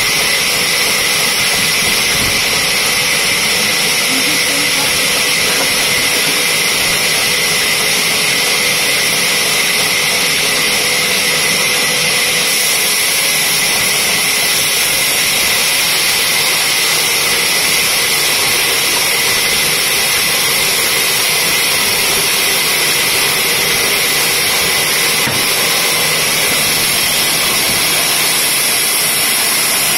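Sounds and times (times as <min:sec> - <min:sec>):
band saw cutting log: 0:00.0 - 0:29.9.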